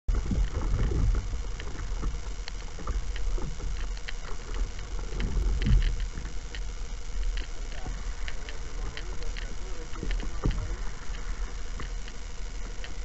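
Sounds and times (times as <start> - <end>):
water splashing against hull: 0.1 - 13.0
wind rumble on microphone: 0.1 - 13.0.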